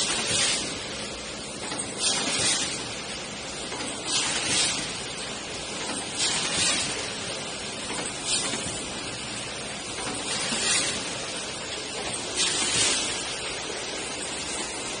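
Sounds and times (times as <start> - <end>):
packing machine hissing: 0.0 - 15.0.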